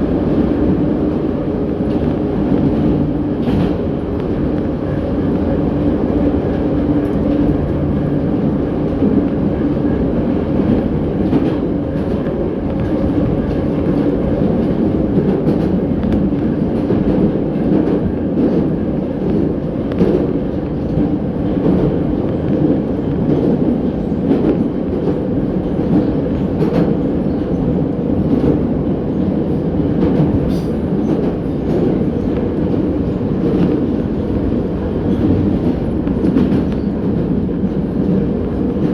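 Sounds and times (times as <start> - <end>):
metro train rumbling: 0.0 - 38.9.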